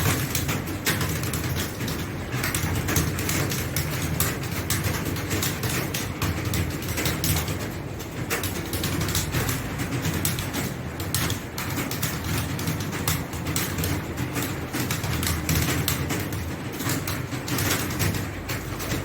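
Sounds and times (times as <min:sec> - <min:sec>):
fast keyboard typing: 0:00.0 - 0:19.0.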